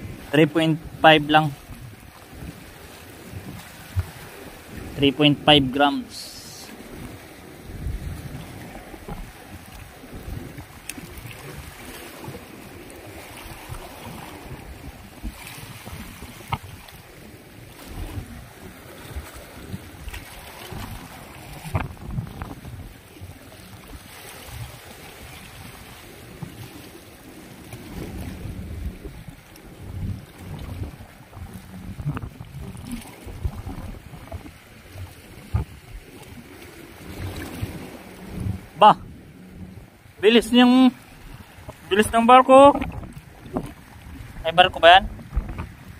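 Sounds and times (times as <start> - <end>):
waves lapping: 0.0 - 45.9
wind buffeting microphone: 0.0 - 45.9.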